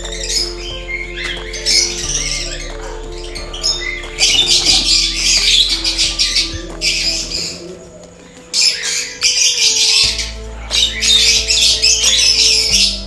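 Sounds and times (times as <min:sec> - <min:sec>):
background music with bass: 0:00.0 - 0:13.0.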